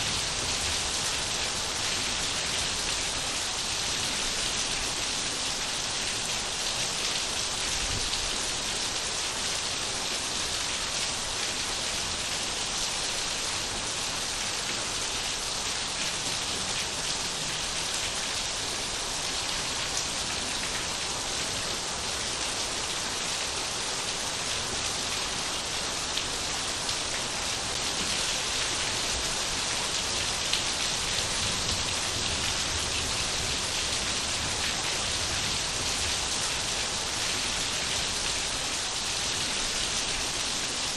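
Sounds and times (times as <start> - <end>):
rain pattering on surfaces: 0.0 - 40.9.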